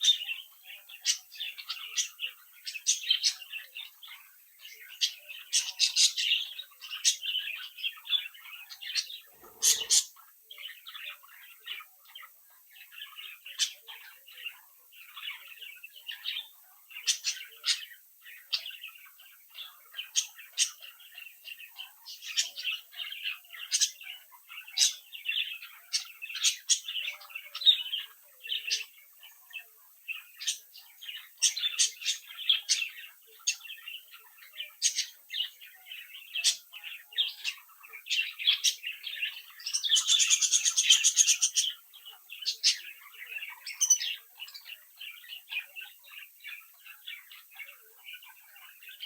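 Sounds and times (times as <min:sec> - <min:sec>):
budgerigars chattering and warbling: 0:00.0 - 0:49.0.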